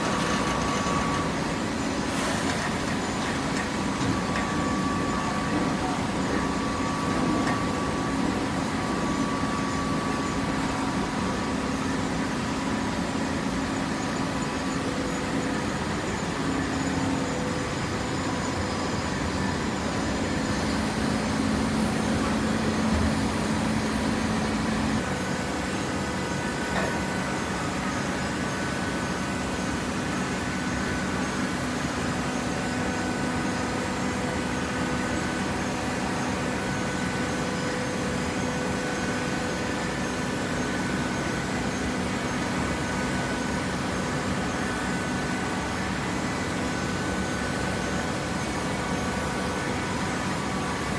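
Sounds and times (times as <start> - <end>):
hydraulic baler humming: 0.0 - 11.5, 18.2 - 50.9.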